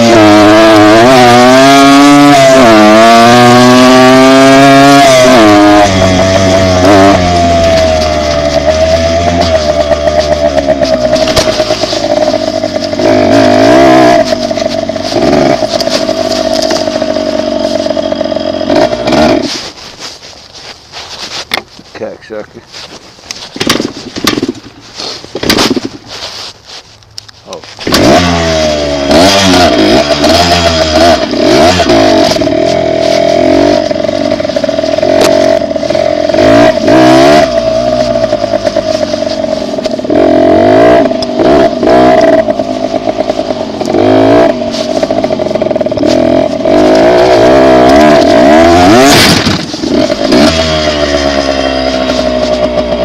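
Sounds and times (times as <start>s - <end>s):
dirt bike engine revving: 0.0s - 21.2s, 23.3s - 26.4s, 27.8s - 53.0s.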